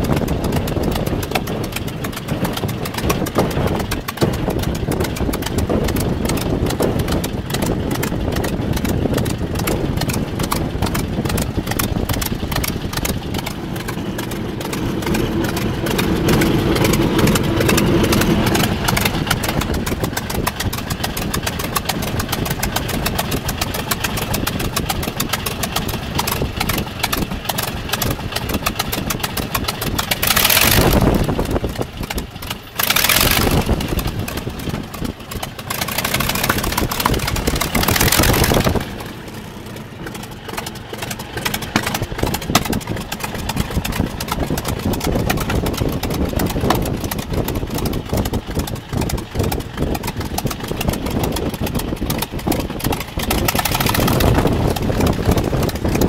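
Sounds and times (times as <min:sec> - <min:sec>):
radial aircraft engine idling: 0:00.0 - 0:56.0
rushing wind noise: 0:00.0 - 0:56.0.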